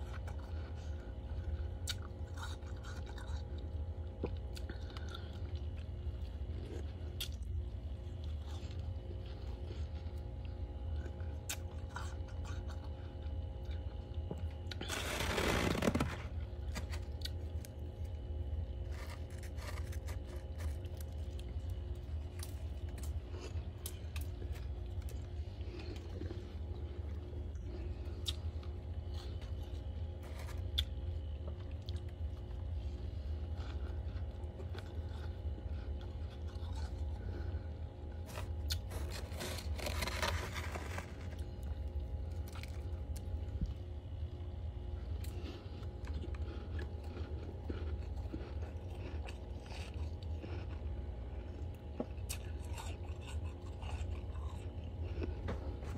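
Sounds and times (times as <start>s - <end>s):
freezer frost scraping and crunching: 0.0s - 43.8s, 44.8s - 55.9s
steady low hum: 0.0s - 55.9s.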